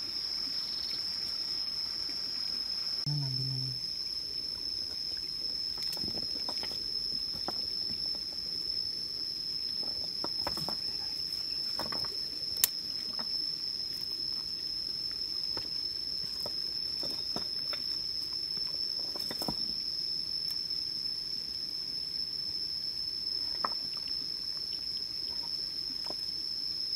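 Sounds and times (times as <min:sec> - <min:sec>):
insect high-pitched tone: 0:00.0 - 0:26.9.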